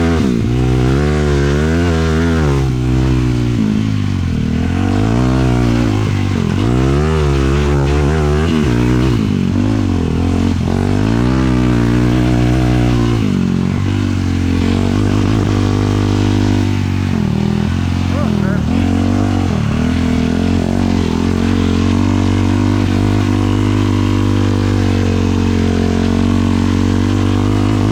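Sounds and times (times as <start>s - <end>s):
quad engine revving: 0.0s - 27.9s.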